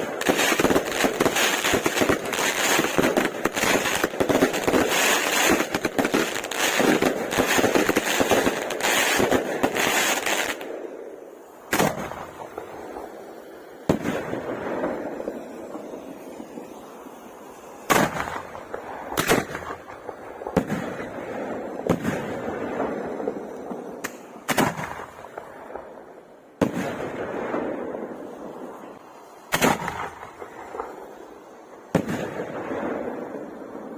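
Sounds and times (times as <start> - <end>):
fireworks crackling and popping: 0.0 - 33.9
fireworks sharp bangs: 0.0 - 33.9.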